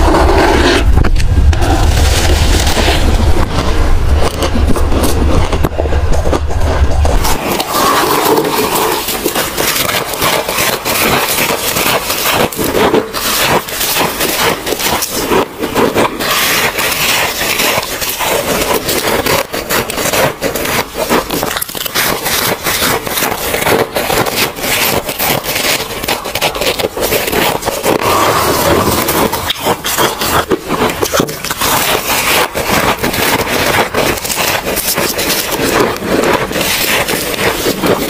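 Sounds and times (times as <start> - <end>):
frost and ice crunching: 0.0 - 38.0.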